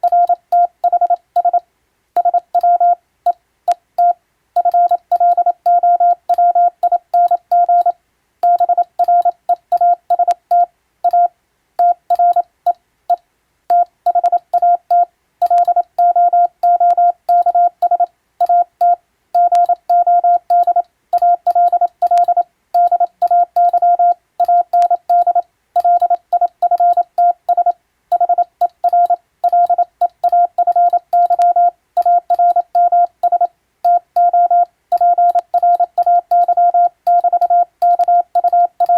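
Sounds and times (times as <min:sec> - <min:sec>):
morse code tone: 0:00.0 - 0:01.6, 0:04.0 - 0:12.5, 0:13.7 - 0:38.9.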